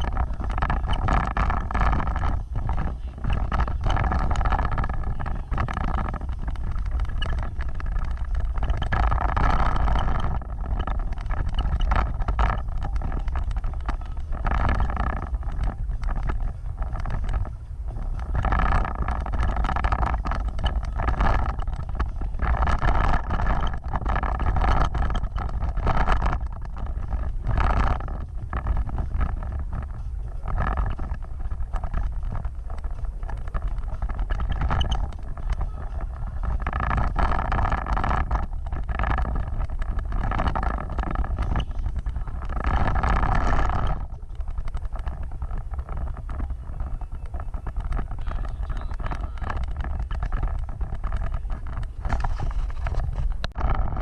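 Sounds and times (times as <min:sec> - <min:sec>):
off-road vehicle engine rumble: 0:00.0 - 0:54.0.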